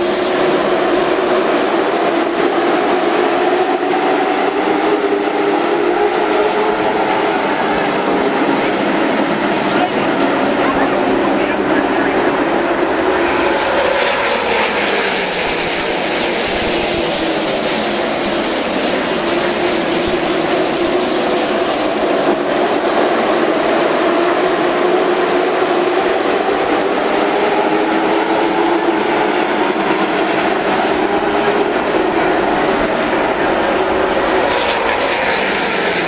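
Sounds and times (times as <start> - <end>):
race car engines roaring past: 0.0 - 36.0.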